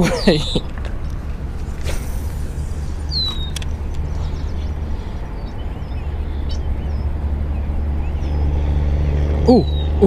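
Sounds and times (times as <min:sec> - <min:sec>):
steady low rumble: 0:00.0 - 0:09.4
small birds chirping: 0:00.0 - 0:10.0.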